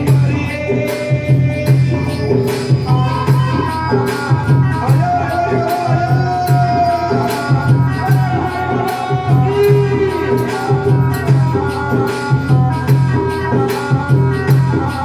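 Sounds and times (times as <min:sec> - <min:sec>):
drum beat: 0:00.0 - 0:15.0
jingling hand percussion: 0:00.0 - 0:15.0.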